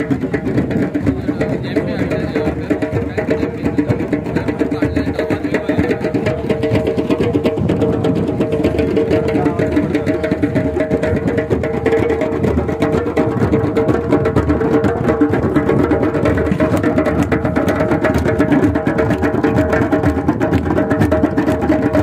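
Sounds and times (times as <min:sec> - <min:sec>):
hand drums playing: 0:00.0 - 0:22.0.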